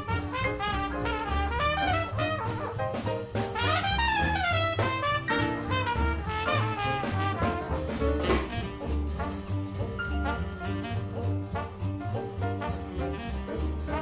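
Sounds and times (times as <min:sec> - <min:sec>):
sliding brass phrase: 0:00.0 - 0:14.0
swing jazz brass band: 0:00.0 - 0:14.0
walking bass: 0:00.0 - 0:14.0.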